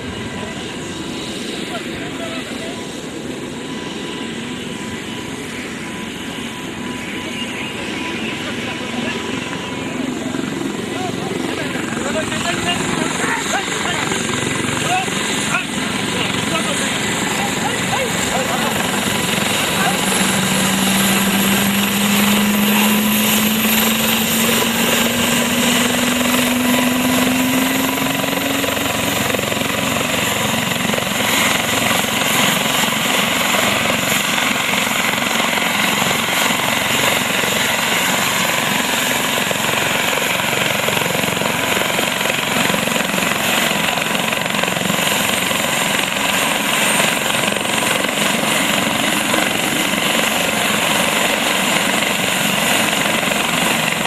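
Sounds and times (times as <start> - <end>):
helicopter turbine and rotor noise: 0.0 - 54.0.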